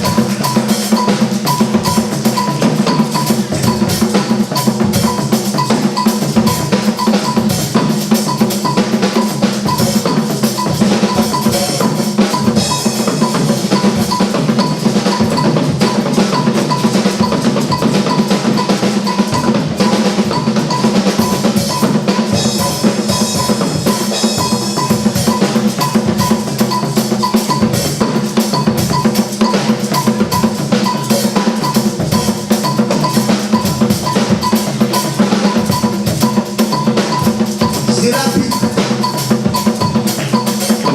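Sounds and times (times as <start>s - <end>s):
drum-driven music: 0.0s - 40.9s.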